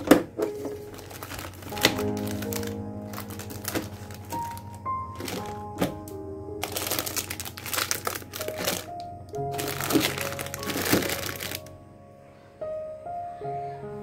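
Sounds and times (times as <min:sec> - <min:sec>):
packaging crinkling: 0:00.0 - 0:11.7
soft background piano music: 0:00.0 - 0:14.0.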